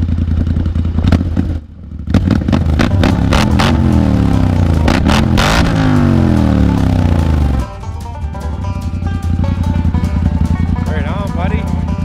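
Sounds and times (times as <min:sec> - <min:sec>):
engine idling and revving: 0:00.0 - 0:12.0
exhaust cracks: 0:00.0 - 0:12.0.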